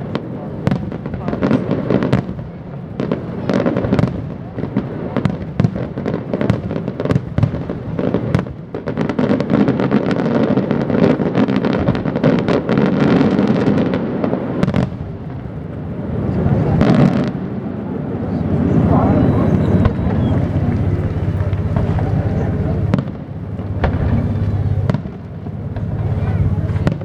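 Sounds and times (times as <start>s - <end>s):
fireworks bangs: 0.0s - 27.0s
rapid crackling fireworks: 0.0s - 27.0s.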